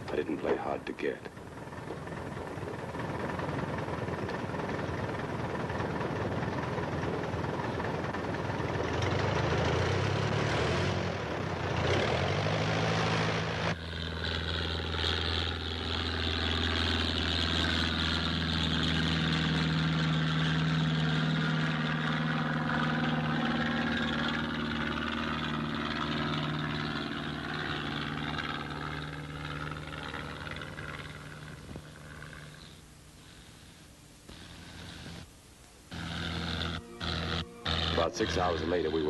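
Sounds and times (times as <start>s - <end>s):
propeller airplane engine: 0.0s - 39.0s.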